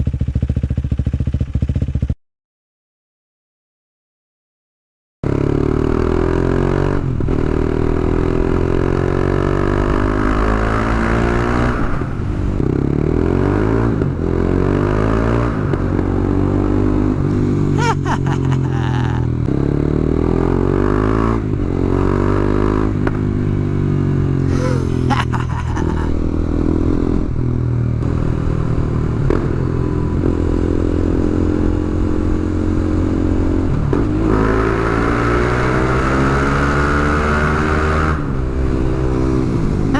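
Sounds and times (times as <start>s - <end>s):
motorcycle engine revving: 0.0s - 2.2s, 5.3s - 39.9s.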